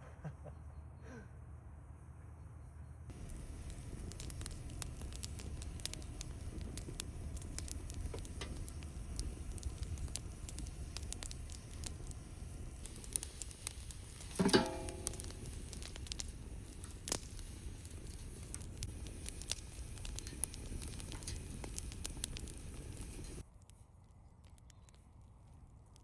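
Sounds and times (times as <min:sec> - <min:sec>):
campfire crackling: 0:03.1 - 0:26.0
fire pops and snaps: 0:03.1 - 0:26.0.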